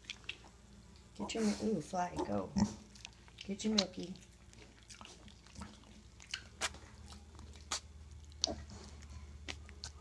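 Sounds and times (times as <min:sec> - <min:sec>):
piglets slurping milk: 0:00.0 - 0:10.0.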